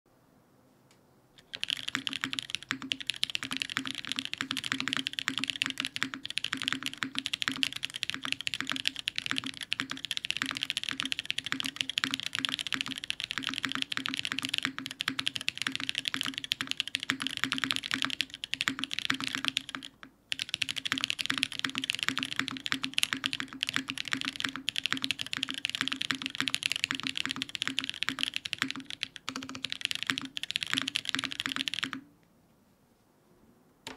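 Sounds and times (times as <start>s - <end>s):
mechanical keyboard typing: 1.4s - 32.1s.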